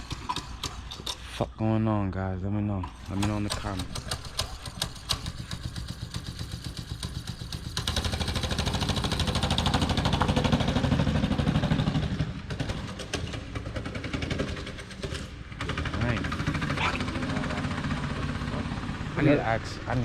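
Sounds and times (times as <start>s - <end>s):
small engine revving: 3.0s - 20.0s.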